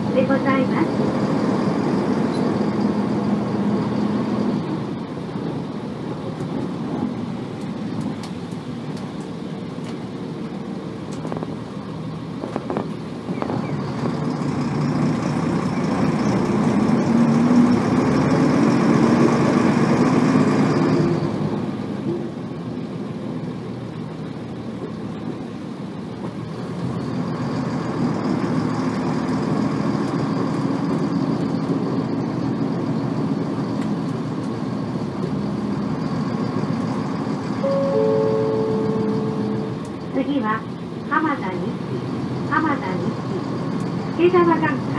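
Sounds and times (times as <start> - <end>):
high gear whine: 0.0 - 21.6, 26.6 - 44.9
bus diesel engine revving: 0.0 - 22.7, 26.5 - 44.9.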